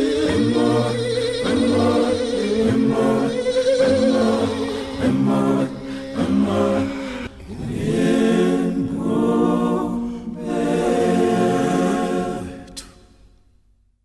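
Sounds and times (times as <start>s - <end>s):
unaccompanied voices singing in harmony: 0.0s - 13.0s.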